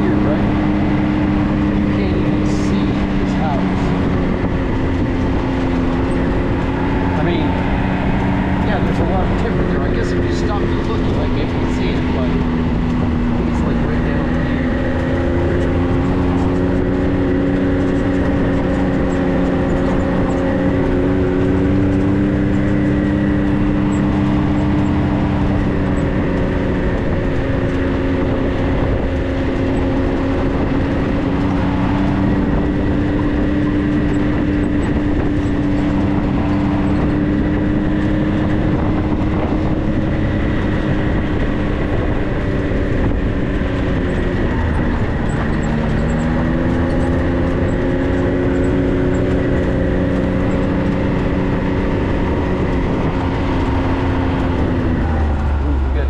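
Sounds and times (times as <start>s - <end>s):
road rumble: 0.0s - 56.0s
vehicle engine running steadily: 0.0s - 56.0s.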